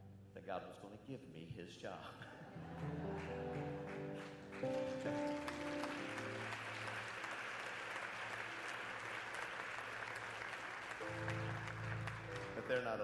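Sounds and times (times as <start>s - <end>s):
crowd applauding: 2.6s - 13.0s.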